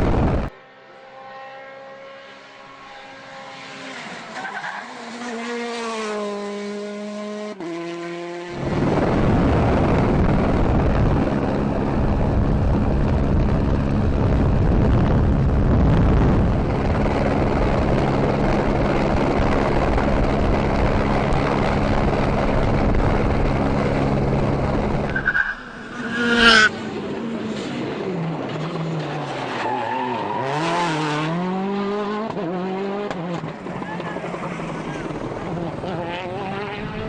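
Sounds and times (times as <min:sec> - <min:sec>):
rally car engine: 0:00.0 - 0:37.0
tyre and road noise: 0:01.6 - 0:37.0.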